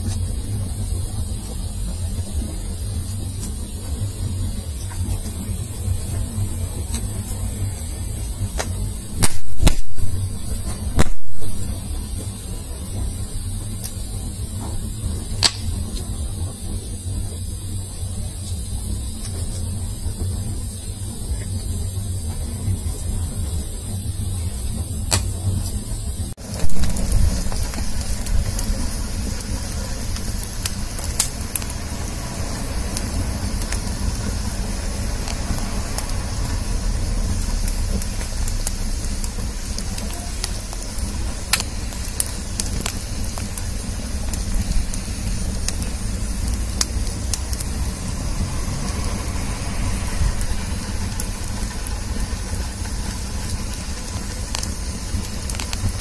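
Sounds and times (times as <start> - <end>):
low steady fire rumble: 0.0 - 56.0
wood fire crackling and popping: 0.0 - 56.0.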